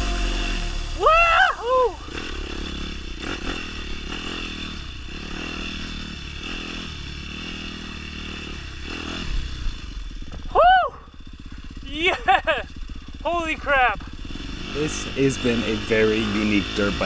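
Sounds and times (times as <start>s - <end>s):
dirt bike engine at low revs: 0.0s - 17.0s.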